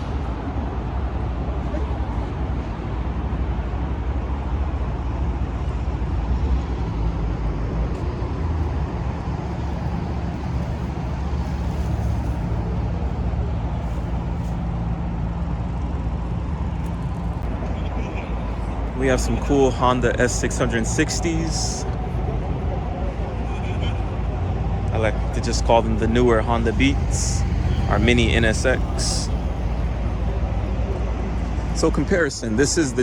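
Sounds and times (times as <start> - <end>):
car engines idling: 0.0 - 33.0
passing traffic: 0.0 - 33.0.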